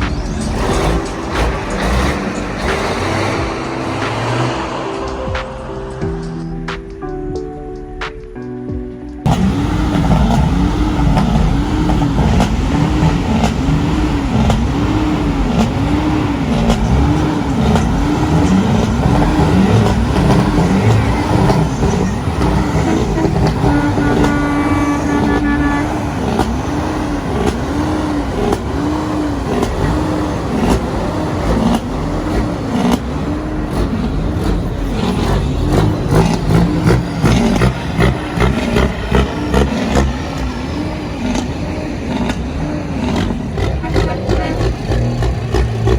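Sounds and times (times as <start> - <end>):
wailing siren tone: 0.0 - 6.8, 9.3 - 45.1
horn blast: 0.0 - 7.2, 9.3 - 45.9
truck engines running loudly: 0.0 - 7.4, 9.2 - 45.9.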